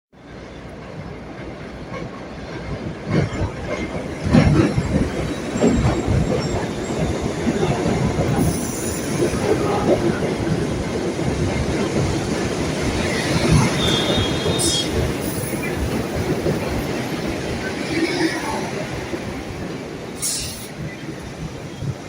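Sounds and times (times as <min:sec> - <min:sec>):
subway train rumbling on rails: 0:00.1 - 0:22.0.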